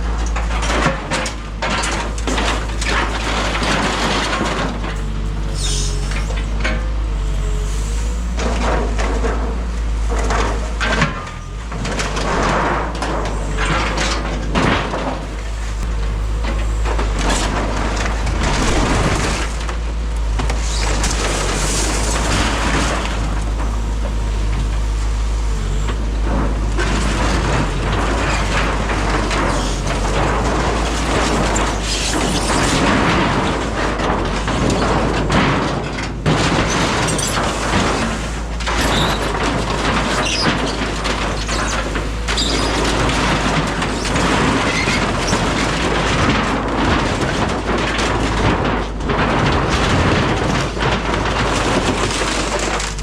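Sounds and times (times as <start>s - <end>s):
excavator engine running: 0.0s - 53.0s
wood and metal cracking and splintering: 0.0s - 53.0s.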